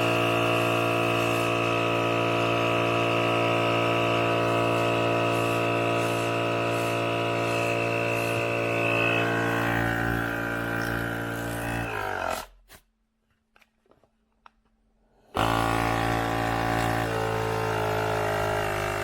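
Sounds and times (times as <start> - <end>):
tyre inflator compressor buzzing: 0.0 - 12.6, 15.3 - 19.0.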